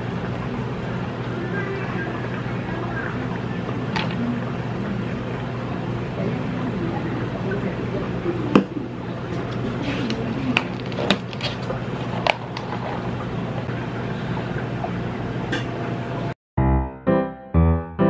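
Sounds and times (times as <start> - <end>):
cafe background hum: 0.0 - 16.4.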